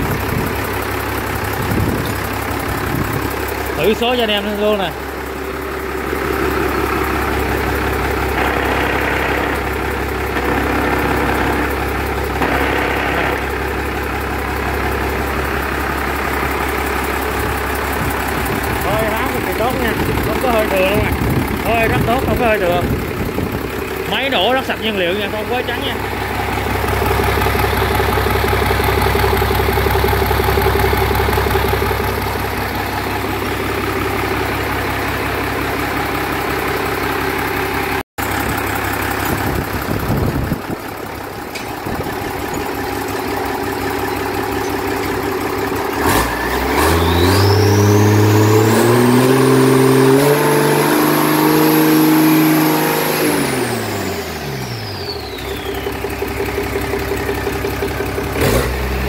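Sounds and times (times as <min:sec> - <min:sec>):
high engine whine: 0:00.0 - 0:59.0
marine diesel engine revving: 0:00.0 - 0:59.0.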